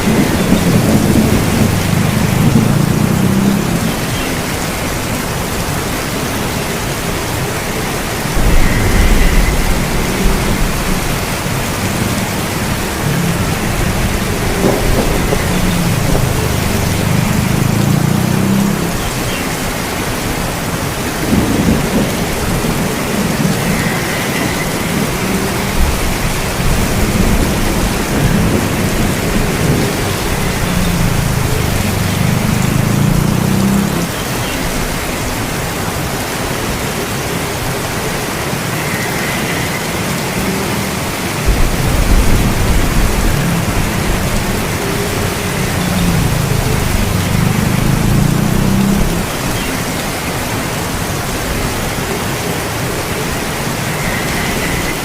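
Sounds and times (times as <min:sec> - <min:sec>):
thunder rumbling: 0:00.0 - 0:35.3, 0:41.4 - 0:52.0
steady rain falling: 0:00.0 - 0:55.0.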